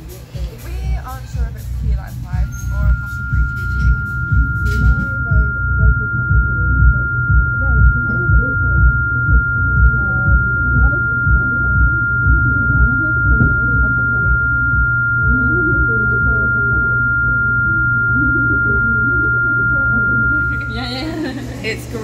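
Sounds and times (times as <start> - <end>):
faint murmur of voices: 0.0 - 22.0
low background rumble: 0.4 - 22.0
steady electronic beep tone: 1.1 - 22.0.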